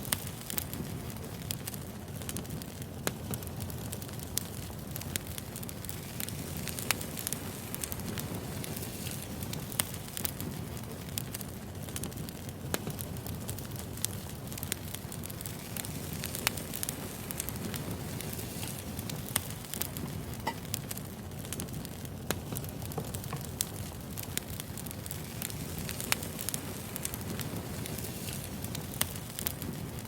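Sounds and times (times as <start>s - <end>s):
burning logs popping and crackling: 0.0s - 30.0s
fire rushing: 0.0s - 30.0s.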